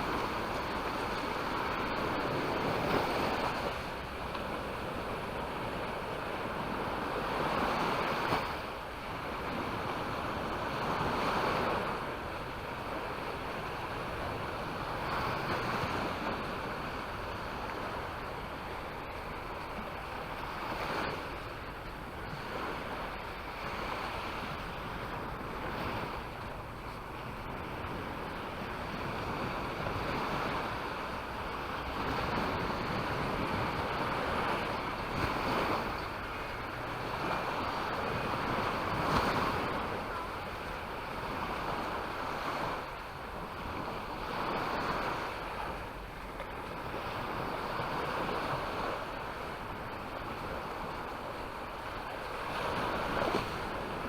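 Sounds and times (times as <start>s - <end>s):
sea waves breaking: 0.0s - 54.0s
wind on microphone: 0.0s - 54.0s.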